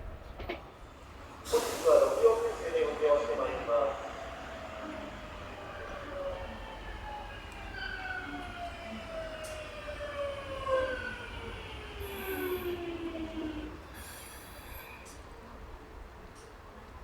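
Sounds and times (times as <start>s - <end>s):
low train running rumble: 0.0s - 17.0s.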